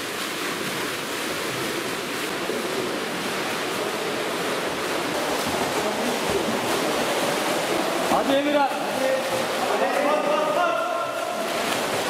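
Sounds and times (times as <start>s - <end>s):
swimmers splashing water: 0.0s - 12.0s.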